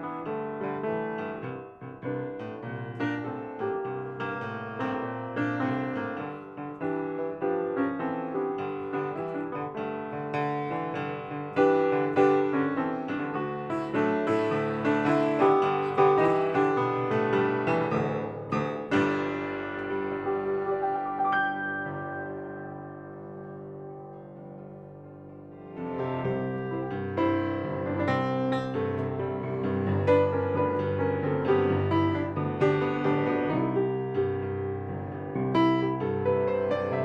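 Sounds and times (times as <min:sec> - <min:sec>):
piano music: 0:00.0 - 0:37.0.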